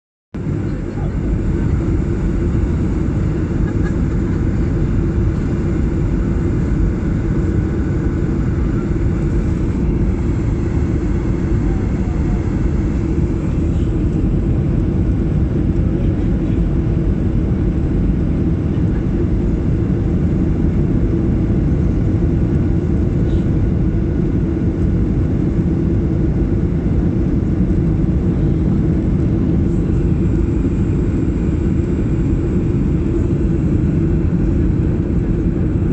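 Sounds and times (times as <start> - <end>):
jet airliner rumbling on approach: 0.4 - 35.9.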